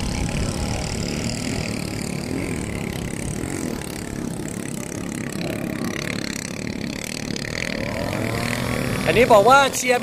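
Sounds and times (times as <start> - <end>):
racing boat engines running: 0.0 - 10.0.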